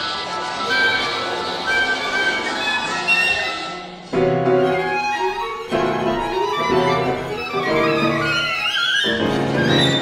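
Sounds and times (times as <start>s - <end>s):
violin: 0.0s - 10.0s
chamber music quintet: 0.7s - 10.0s.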